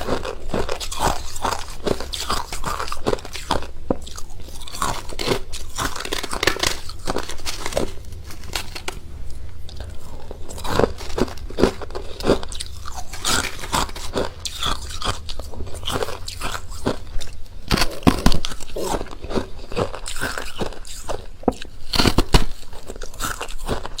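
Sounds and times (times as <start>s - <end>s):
crunching and chewing ice: 0.0s - 24.0s.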